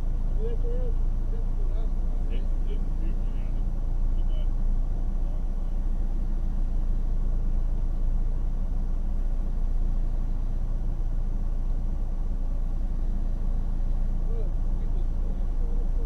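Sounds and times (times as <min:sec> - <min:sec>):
car engine rumble: 0:00.0 - 0:16.0
tyres on road: 0:00.0 - 0:16.0.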